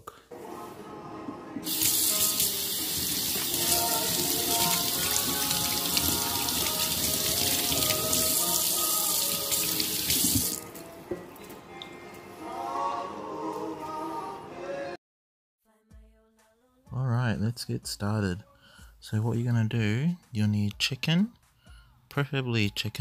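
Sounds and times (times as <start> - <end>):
background music: 0.0 - 15.0, 15.6 - 23.0.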